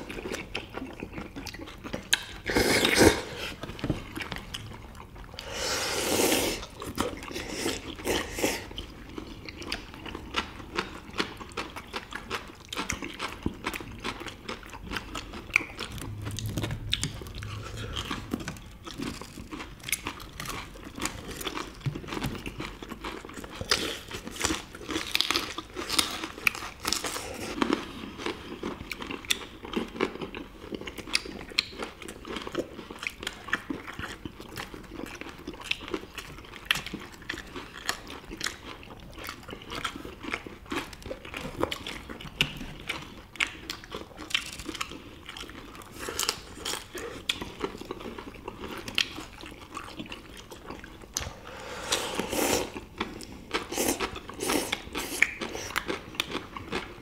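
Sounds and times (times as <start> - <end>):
people chewing and crunching food: 0.0 - 57.0.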